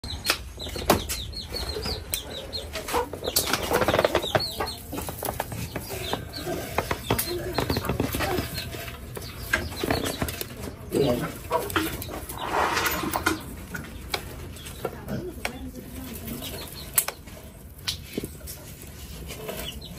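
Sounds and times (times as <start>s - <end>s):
chickens clucking: 0.0s - 19.9s.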